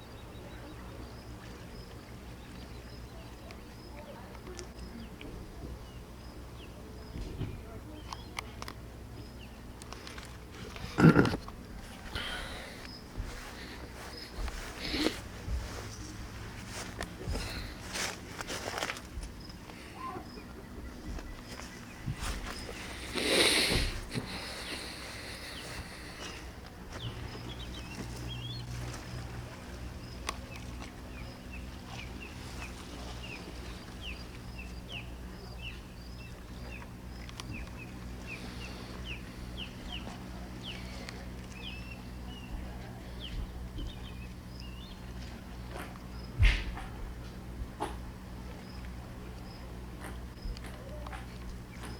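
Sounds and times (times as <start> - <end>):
birds chirping: 0.0 - 51.9
faint outdoor background noise: 0.0 - 51.9.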